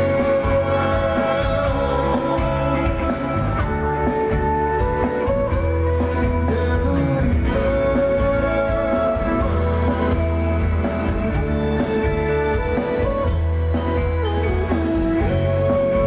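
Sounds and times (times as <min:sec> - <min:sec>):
electric guitar: 0:00.0 - 0:16.0
live band playing: 0:00.0 - 0:16.0.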